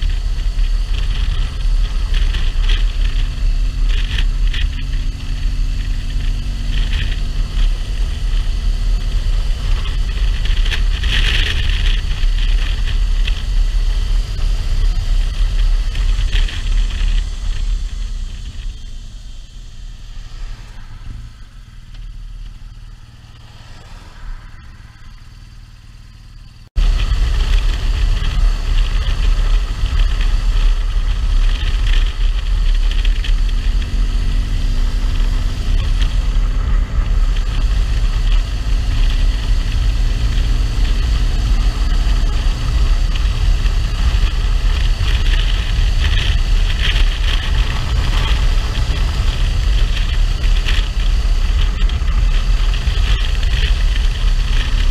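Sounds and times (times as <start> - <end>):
motorcycle engine rumble: 0.0 - 54.9
wind and road rush: 0.0 - 54.9.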